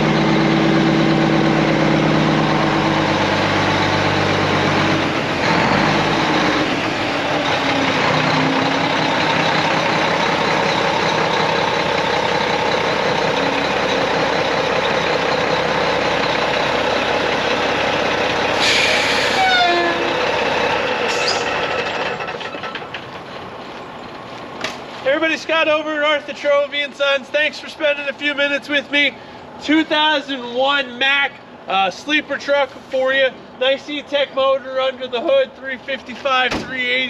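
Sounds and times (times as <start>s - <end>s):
diesel truck running: 0.0s - 37.0s.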